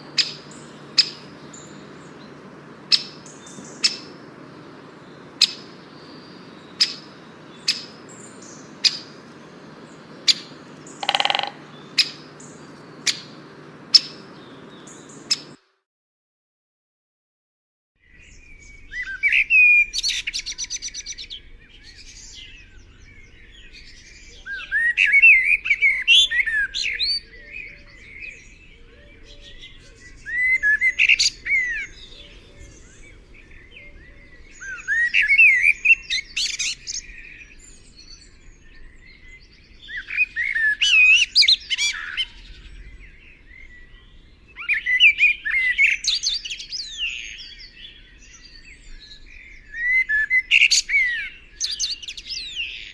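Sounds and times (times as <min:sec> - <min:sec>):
bird singing chirps and trills: 0:00.0 - 0:15.6, 0:18.0 - 0:52.9.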